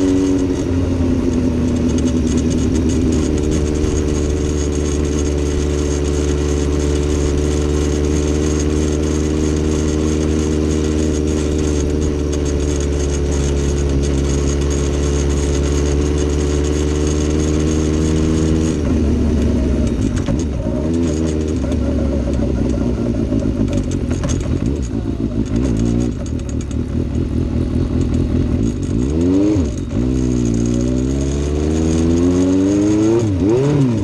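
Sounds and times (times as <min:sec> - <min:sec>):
engine rattle: 0:00.0 - 0:34.0
vehicle engine running: 0:00.0 - 0:34.0.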